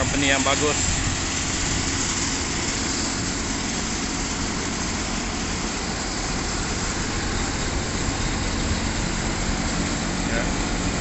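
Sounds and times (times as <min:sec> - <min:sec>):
engine idling with low hum: 0:00.0 - 0:11.0.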